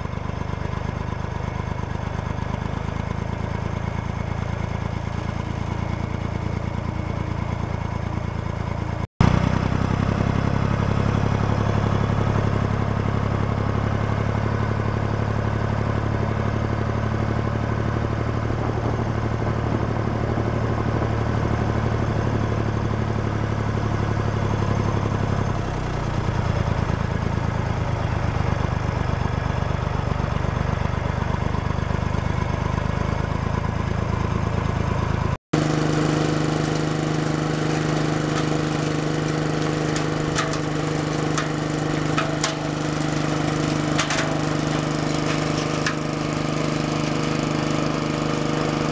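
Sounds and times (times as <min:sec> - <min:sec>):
small tractor engine running: 0:00.0 - 0:48.9.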